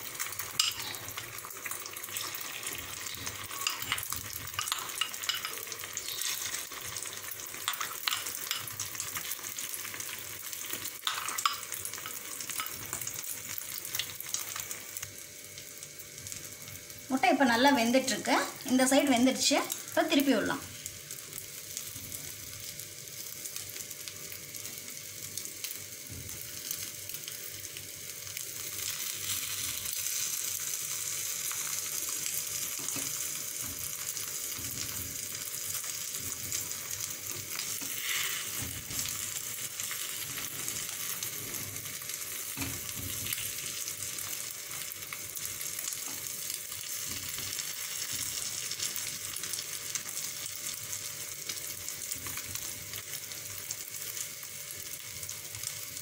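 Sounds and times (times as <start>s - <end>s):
egg batter sizzling in oil: 0.0s - 56.0s.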